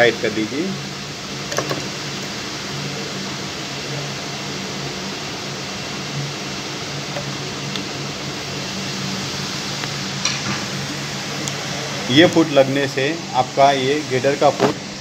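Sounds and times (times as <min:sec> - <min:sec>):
fan humming and hissing: 0:00.0 - 0:15.0.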